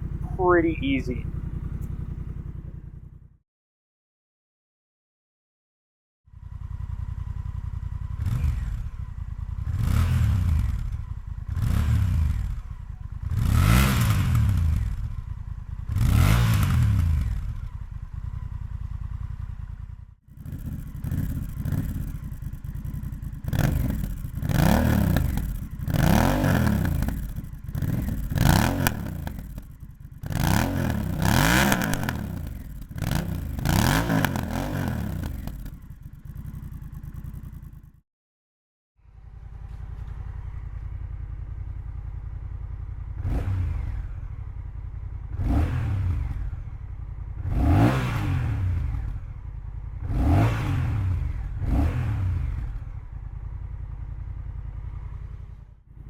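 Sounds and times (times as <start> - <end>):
motorcycle engine idling and revving: 0.0 - 3.4, 6.2 - 38.0, 39.0 - 56.0.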